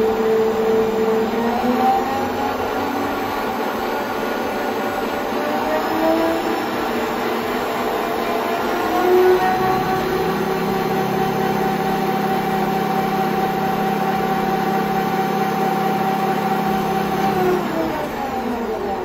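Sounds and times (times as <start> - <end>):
metal lathe whining: 0.0 - 19.0.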